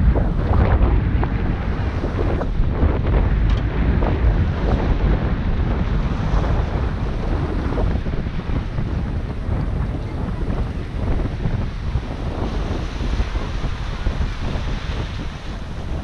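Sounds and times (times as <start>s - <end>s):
sea water washing against rocks: 0.0s - 16.0s
wind buffeting microphone: 0.0s - 16.0s.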